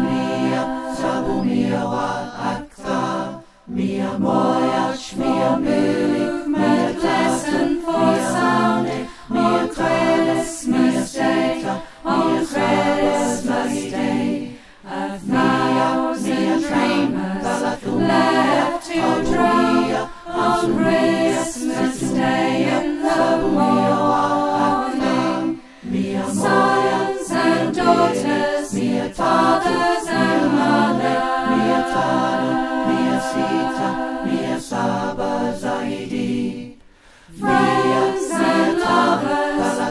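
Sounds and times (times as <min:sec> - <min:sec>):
choir singing a cappella: 0:00.0 - 0:39.9.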